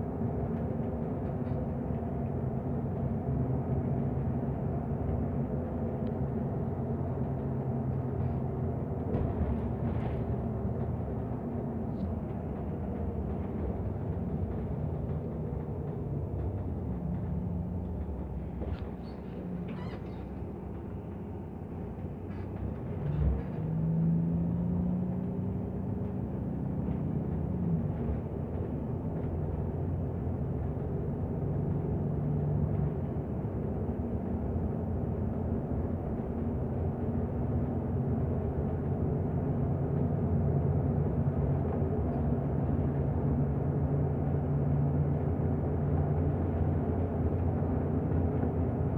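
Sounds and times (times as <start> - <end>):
bus engine drone: 0.0 - 48.9.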